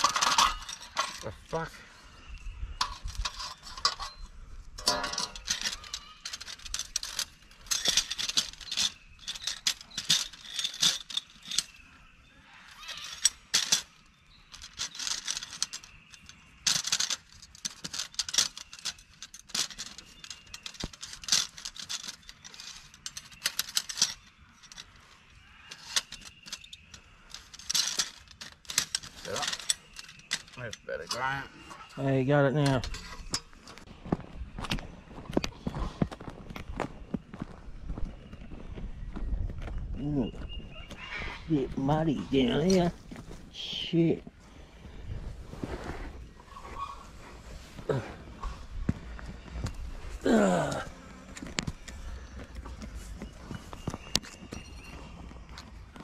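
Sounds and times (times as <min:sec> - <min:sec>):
metal tubes clinking and rattling: 0:00.0 - 0:01.9, 0:02.6 - 0:33.9, 0:41.3 - 0:56.0.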